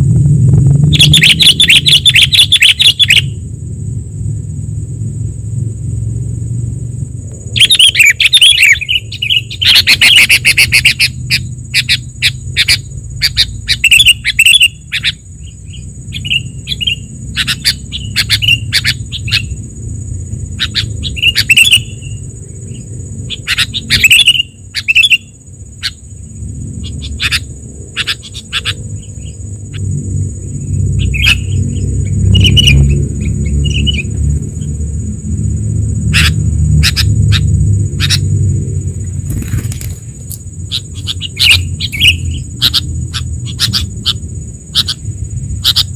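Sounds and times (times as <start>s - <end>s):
high-pitched hum: 0.0s - 45.9s
steady low rumble: 0.0s - 45.9s
bird chirps and warbles: 0.8s - 3.4s, 7.5s - 35.1s, 35.9s - 38.4s, 39.0s - 45.9s.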